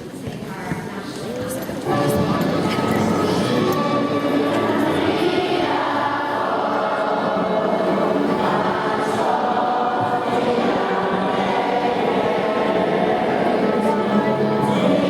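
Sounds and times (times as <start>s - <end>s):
children singing in unison: 1.8s - 15.0s.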